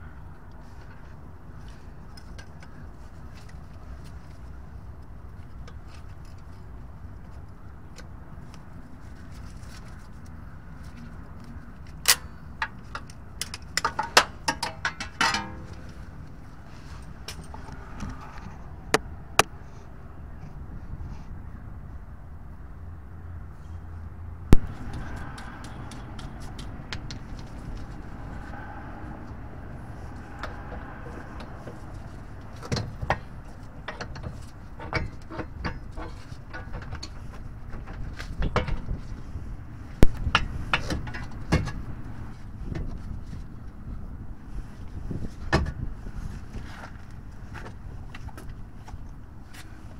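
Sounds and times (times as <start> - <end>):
steady low rumble: 0.0 - 49.9.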